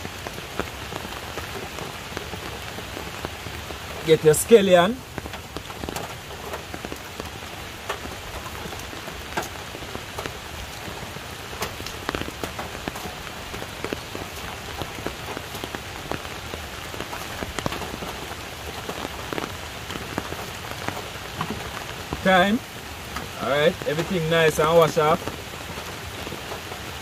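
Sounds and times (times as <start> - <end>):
raindrops ticking on surfaces: 0.0 - 27.0
steady rain falling: 0.0 - 27.0.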